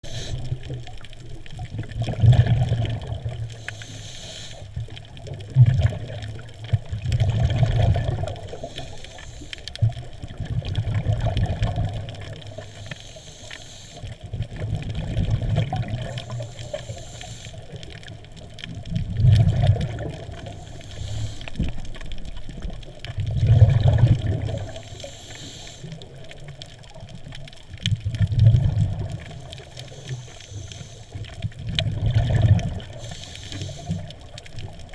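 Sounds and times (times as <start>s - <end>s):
water sloshing and bubbling: 0.0s - 34.9s.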